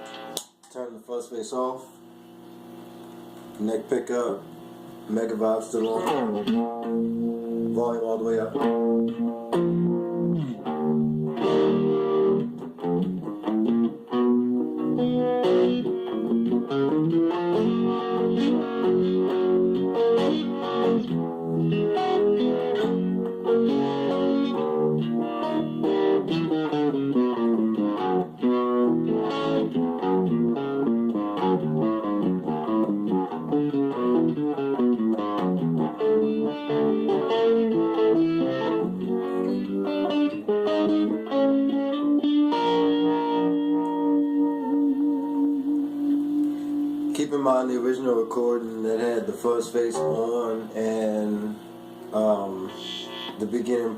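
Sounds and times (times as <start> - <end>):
electric guitar with vibe modulation: 1.9 - 53.9.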